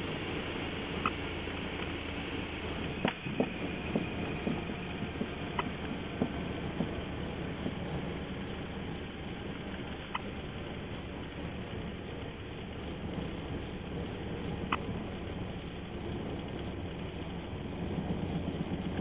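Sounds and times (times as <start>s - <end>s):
airplane engine rumble: 0.0s - 19.0s
wheels knocking on runway: 2.9s - 19.0s.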